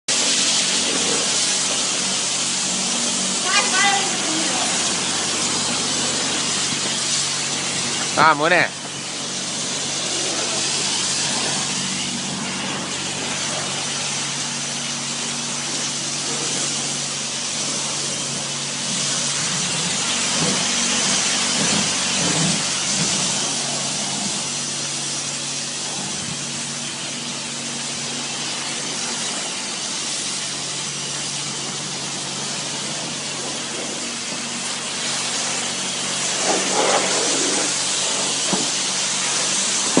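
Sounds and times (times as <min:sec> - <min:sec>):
spraying water hiss: 0:00.1 - 0:40.0
machine hum: 0:00.7 - 0:36.8.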